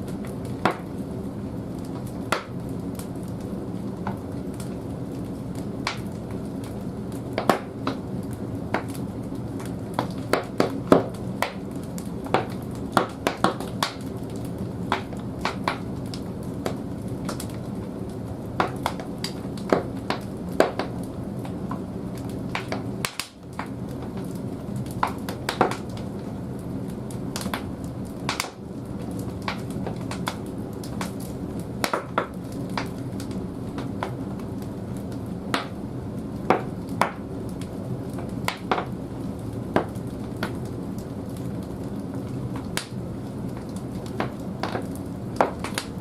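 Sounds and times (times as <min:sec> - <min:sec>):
logs burning in boiler firebox: 0:00.0 - 0:46.0.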